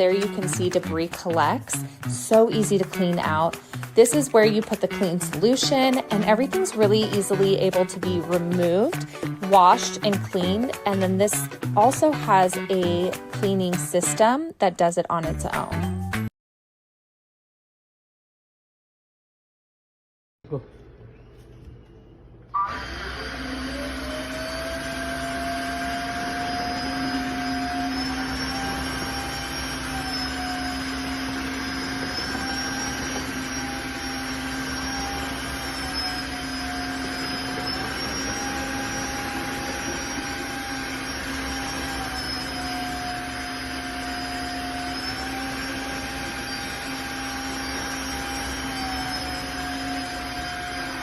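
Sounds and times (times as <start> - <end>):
vacuum motor whine: 0.0 - 13.2, 21.2 - 51.0.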